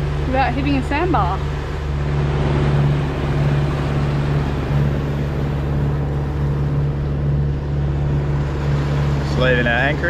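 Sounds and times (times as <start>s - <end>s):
boat engine droning: 0.0s - 10.0s
water rushing along hull: 0.0s - 10.0s.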